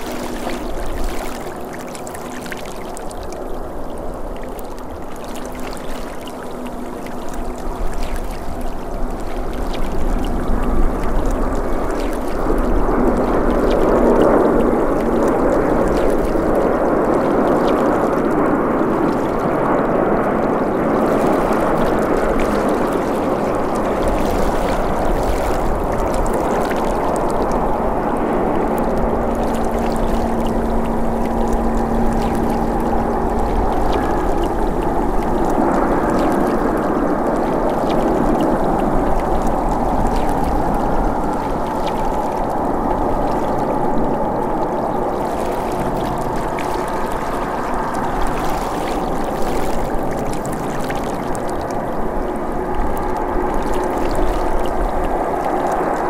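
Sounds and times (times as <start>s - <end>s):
jet engines rushing: 6.5s - 56.0s.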